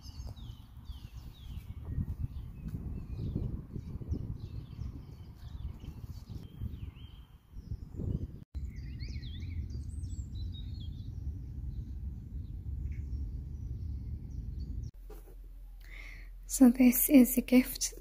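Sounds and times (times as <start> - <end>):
small birds chirping: 0.0 - 15.0
wind rumble on microphone: 0.0 - 15.0.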